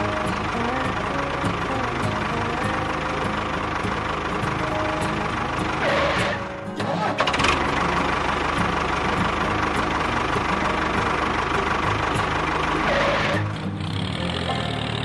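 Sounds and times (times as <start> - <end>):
engine chugging: 0.0 - 15.0.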